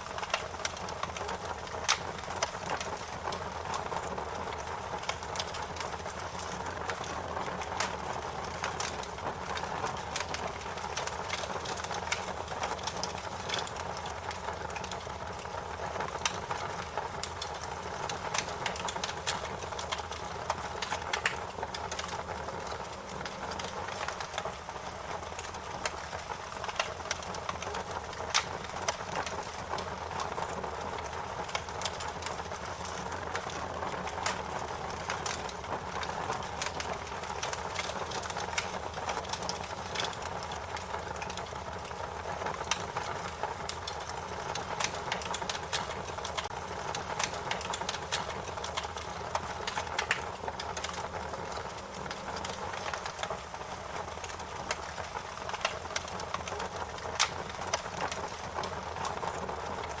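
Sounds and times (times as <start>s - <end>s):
wood fire crackling and popping: 0.0s - 60.0s.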